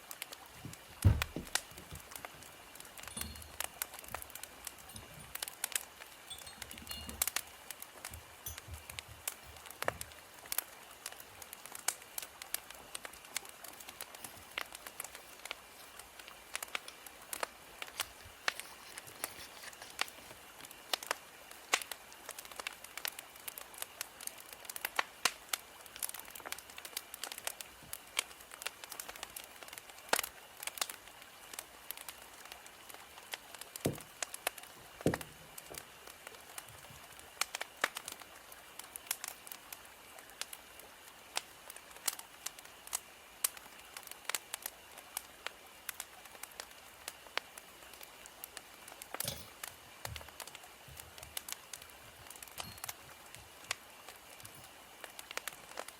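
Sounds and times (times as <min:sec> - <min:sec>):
faint steady hiss: 0:00.0 - 0:55.9
wood fire crackling: 0:00.0 - 0:55.9.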